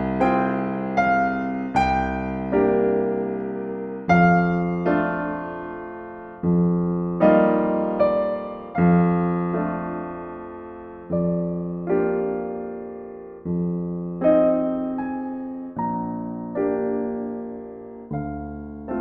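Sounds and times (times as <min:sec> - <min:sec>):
solo piano chords: 0:00.0 - 0:19.0.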